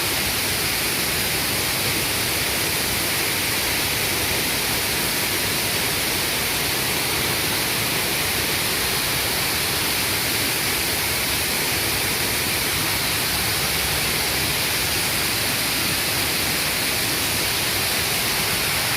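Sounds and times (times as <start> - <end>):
water pouring over waterfall: 0.0 - 18.9.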